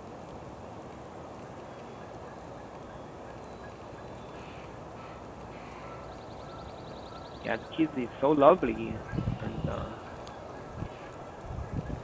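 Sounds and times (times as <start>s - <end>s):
faint outdoor background hiss: 0.0s - 12.0s
distant bird calls: 1.3s - 12.0s.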